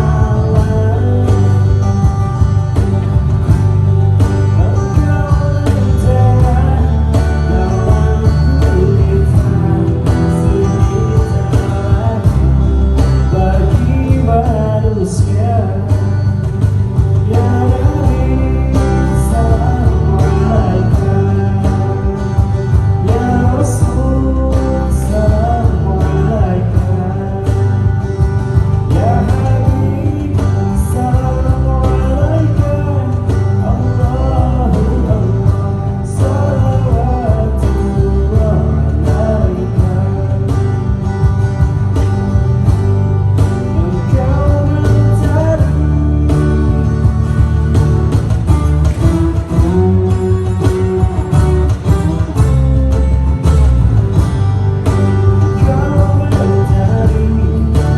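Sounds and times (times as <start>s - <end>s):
bass and guitar accompaniment: 0.0s - 57.9s.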